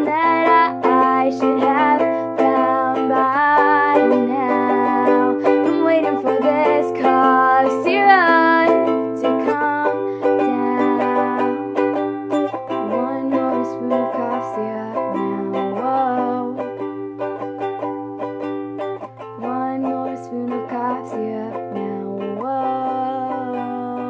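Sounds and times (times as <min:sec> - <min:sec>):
person singing wordless melody: 0:00.0 - 0:17.0, 0:19.2 - 0:24.0
ukulele strumming: 0:00.0 - 0:24.0.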